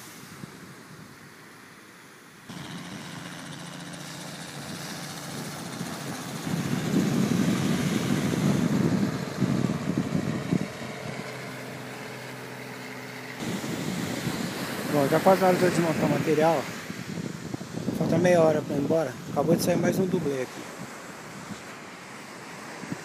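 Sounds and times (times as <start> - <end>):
helicopter flying overhead: 2.5 - 23.0.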